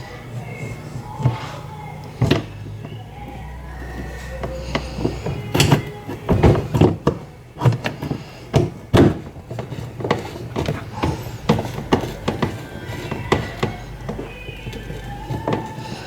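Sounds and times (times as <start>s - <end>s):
parts and tools clattering: 0.0s - 16.0s.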